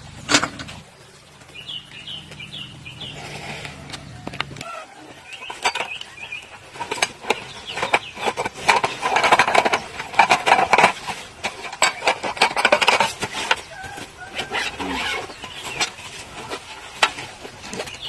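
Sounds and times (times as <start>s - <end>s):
rustling: 3.0s - 18.0s.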